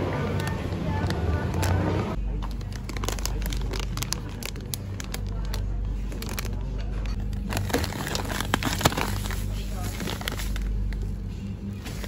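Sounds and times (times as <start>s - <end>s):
quiet background music: 0.0s - 12.0s
plastic packaging crinkling: 0.3s - 11.2s.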